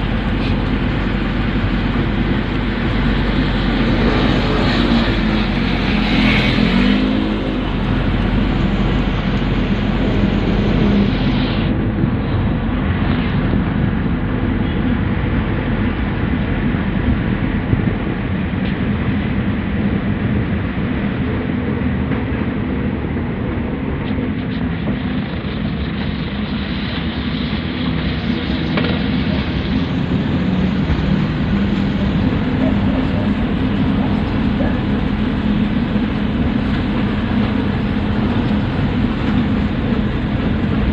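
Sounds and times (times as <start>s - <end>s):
continuous rushing noise: 0.0s - 40.9s
truck engine running: 0.0s - 40.9s.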